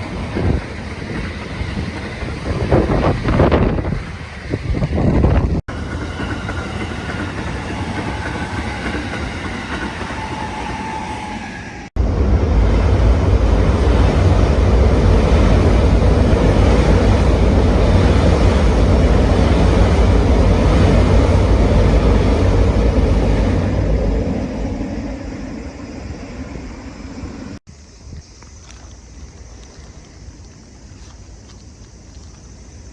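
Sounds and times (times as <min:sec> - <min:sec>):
loud low train rumble: 0:00.0 - 0:28.2
wind and rain rush: 0:00.0 - 0:32.9.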